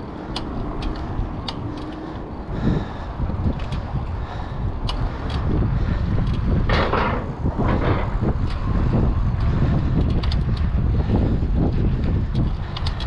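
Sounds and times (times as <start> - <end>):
bicycle rattling clicks: 0.0 - 13.0
wind buffeting microphone: 0.0 - 13.0.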